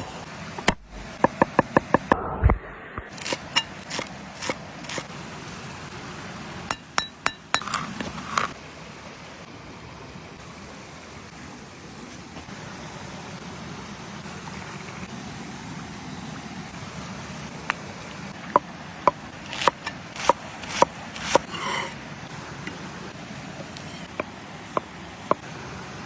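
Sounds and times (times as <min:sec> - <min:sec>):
low background noise: 0:00.0 - 0:26.0.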